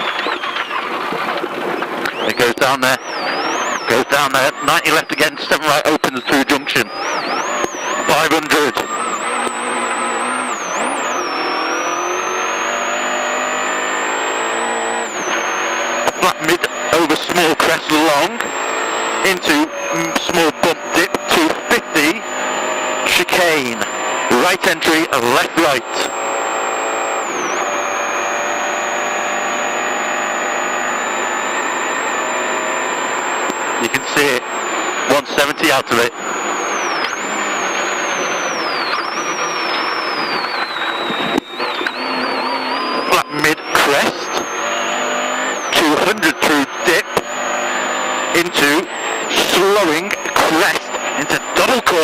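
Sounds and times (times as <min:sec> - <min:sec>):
car engine at full throttle: 0:00.0 - 0:52.0.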